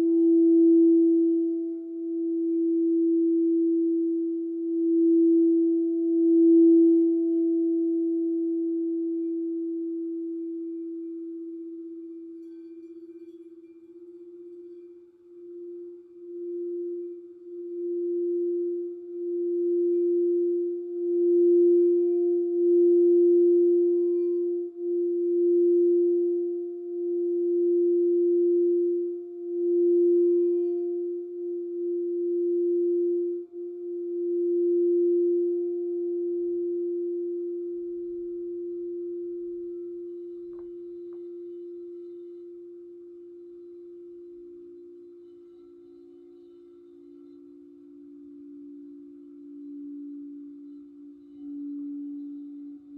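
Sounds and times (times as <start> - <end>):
crystal singing bowl tone: 0.0 - 52.9.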